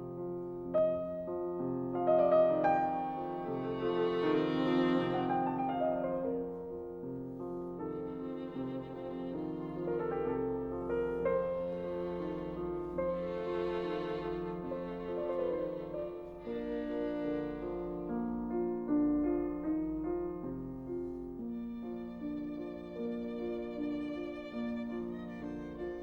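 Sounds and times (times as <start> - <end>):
slow violin melody: 0.0 - 20.1, 20.9 - 26.0.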